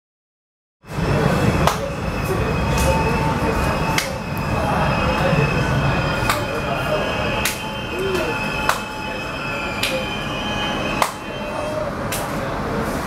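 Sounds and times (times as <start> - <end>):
train passing with loud rumble: 0.8 - 13.0
high-pitched ring: 1.0 - 12.1.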